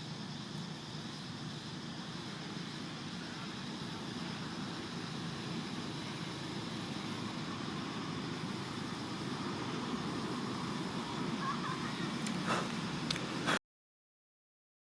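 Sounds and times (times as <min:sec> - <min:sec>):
hiss: 0:00.0 - 0:13.6.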